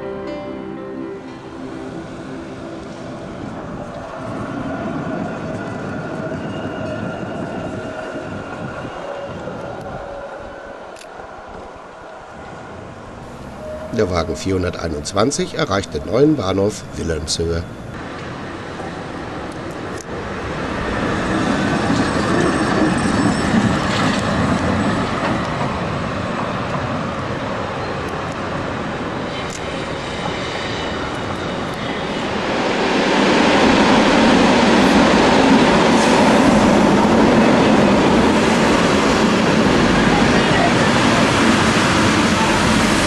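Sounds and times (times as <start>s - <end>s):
tram wheels rumbling on rails: 1.2s - 43.0s.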